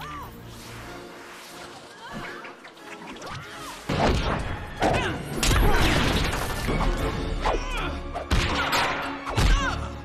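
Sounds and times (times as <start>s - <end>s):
film music score: 0.0s - 10.0s.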